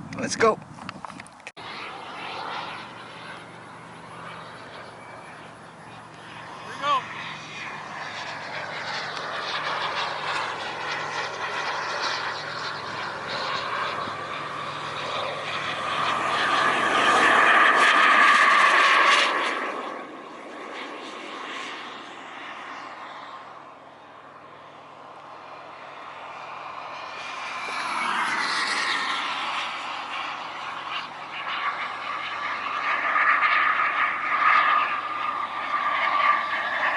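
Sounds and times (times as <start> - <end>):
model jet engine whine: 0.0 - 36.9.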